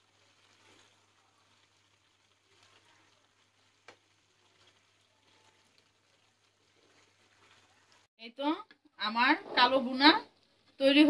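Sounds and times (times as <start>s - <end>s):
faint meat sizzling: 0.0s - 11.0s.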